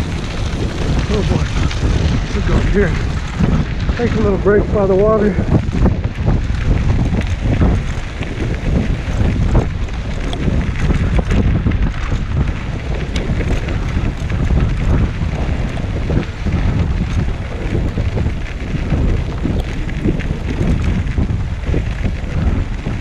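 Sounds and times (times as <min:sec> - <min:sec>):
wind on camera microphone: 0:00.0 - 0:23.0.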